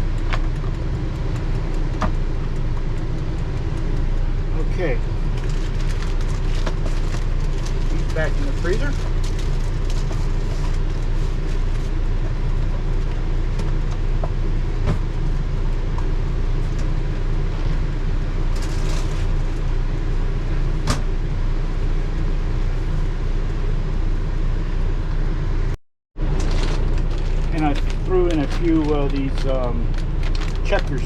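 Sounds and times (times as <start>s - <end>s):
generator drone: 0.0s - 31.0s.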